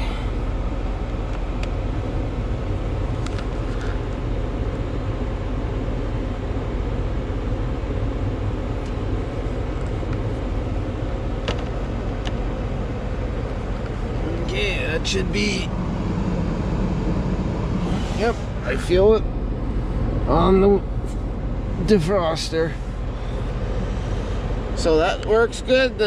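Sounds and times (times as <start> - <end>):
heater blower fan rushing: 0.0 - 26.0.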